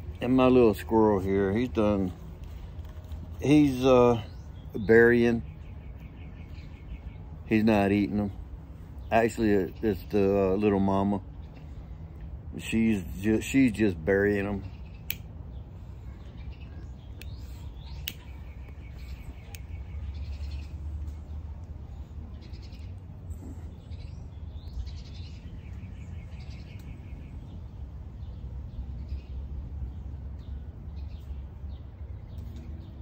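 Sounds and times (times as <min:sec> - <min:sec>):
birds chirping in trills: 0:00.0 - 0:33.0
low steady rumble: 0:00.0 - 0:33.0.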